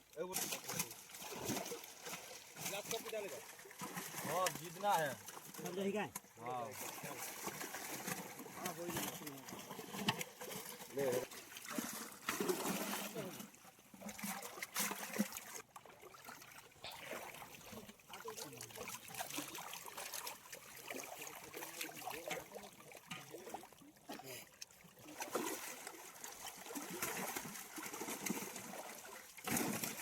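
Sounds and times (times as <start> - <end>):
pond water trickling: 0.0 - 30.0
small splashes and drips: 0.0 - 30.0.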